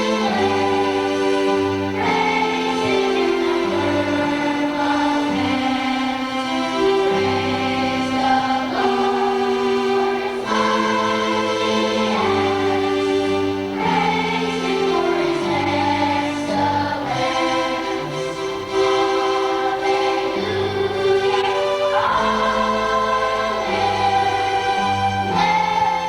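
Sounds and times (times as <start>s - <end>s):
choir singing: 0.0s - 26.0s
musical accompaniment: 0.0s - 26.0s.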